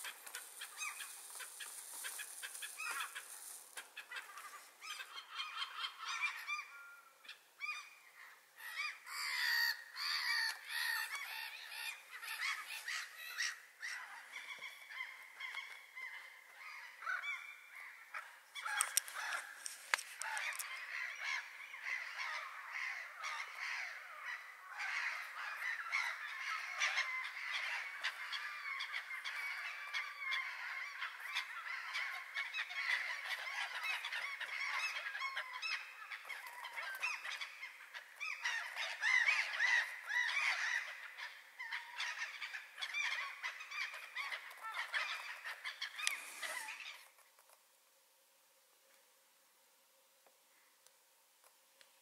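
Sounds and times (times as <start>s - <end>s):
flock of birds calling: 0.0s - 47.2s.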